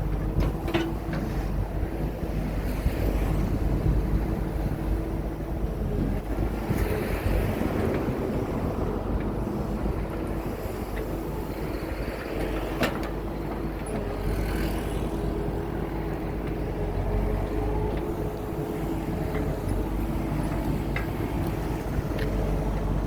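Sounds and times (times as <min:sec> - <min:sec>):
diesel engine rumbling: 0:00.0 - 0:23.0.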